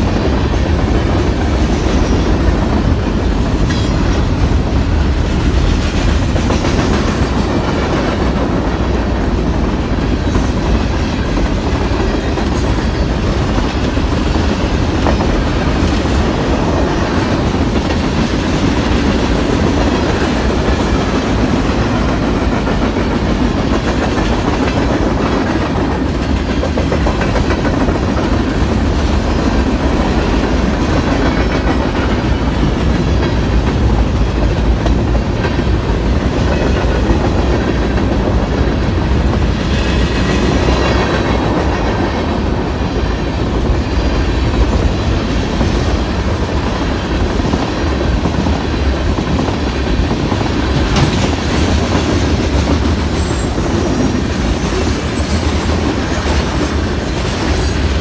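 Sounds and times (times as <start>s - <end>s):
freight train rumbling past: 0.0s - 58.0s
steel wheels clattering on rails: 0.0s - 58.0s.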